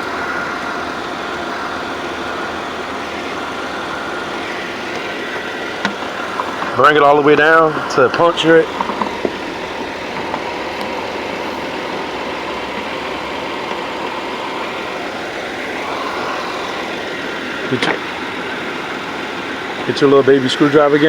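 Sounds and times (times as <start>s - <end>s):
air conditioning rush: 0.0s - 21.0s
car engine idling: 0.0s - 21.0s.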